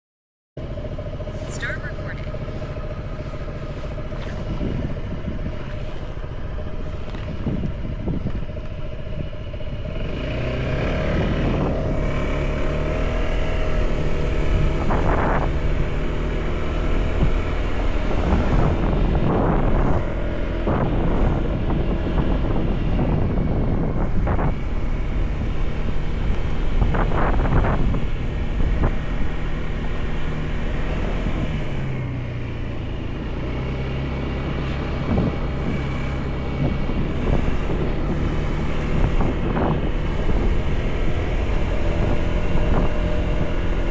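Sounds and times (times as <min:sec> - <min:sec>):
motorcycle engine revving: 0:00.6 - 0:43.9.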